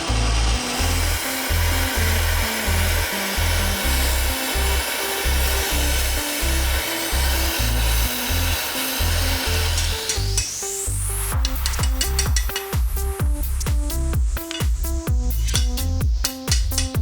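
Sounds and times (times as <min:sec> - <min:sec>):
music with bass notes: 0:00.0 - 0:17.0
steady hiss: 0:00.0 - 0:17.0.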